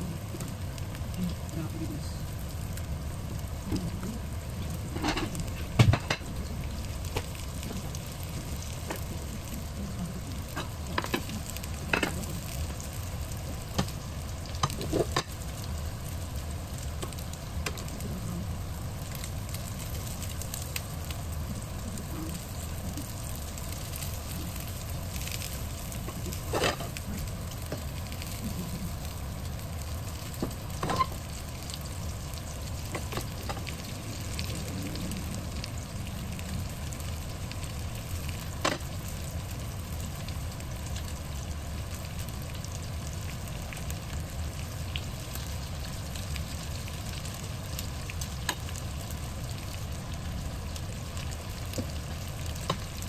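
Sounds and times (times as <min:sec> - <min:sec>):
chicken sizzling in frying oil: 0:00.0 - 0:53.0.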